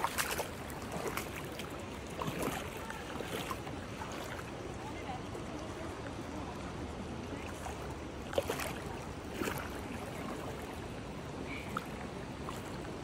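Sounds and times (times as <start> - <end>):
water flowing in a creek: 0.0 - 13.0.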